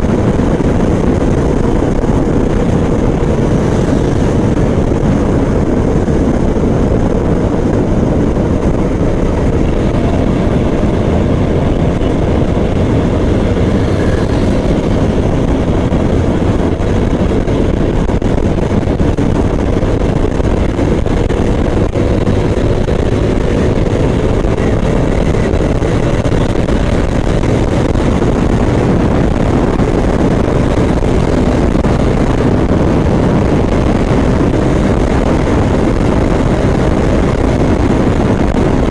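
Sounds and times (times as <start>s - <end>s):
motorcycle engine running: 0.0s - 38.9s
wind and road noise rumble: 0.0s - 38.9s.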